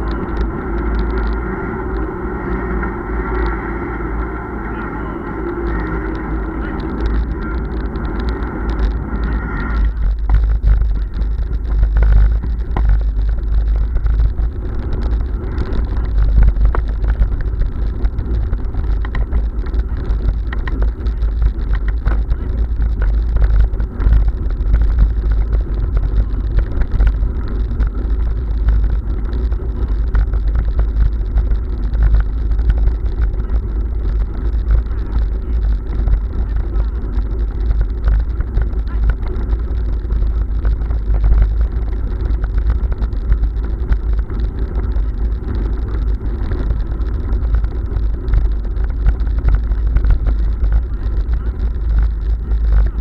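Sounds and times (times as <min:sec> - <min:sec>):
bicycle rolling over cobblestones: 0:00.0 - 0:53.0.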